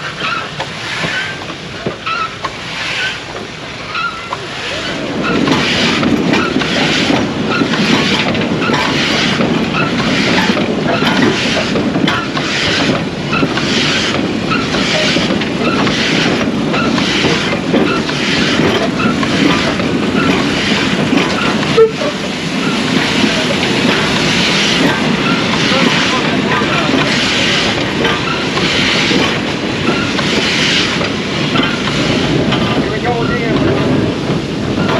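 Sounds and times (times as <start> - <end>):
steam hissing: 0.0 - 34.9
steam locomotive exhaust chuffing: 0.0 - 34.9.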